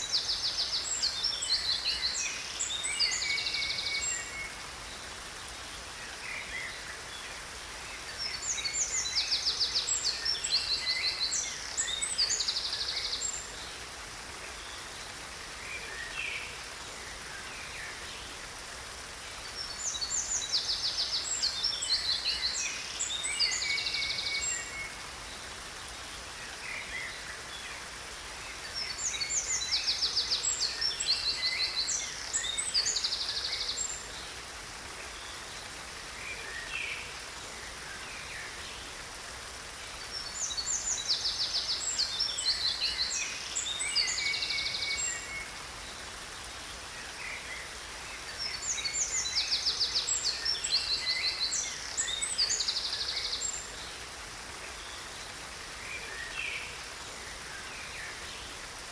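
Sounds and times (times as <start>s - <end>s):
falling water hiss: 0.0s - 58.9s.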